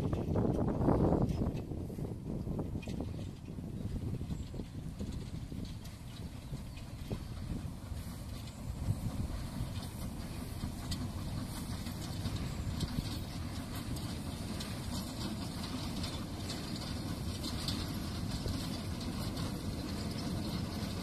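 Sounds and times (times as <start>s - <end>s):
distant steam locomotive: 0.0s - 21.0s
wind rumble on microphone: 0.0s - 21.0s.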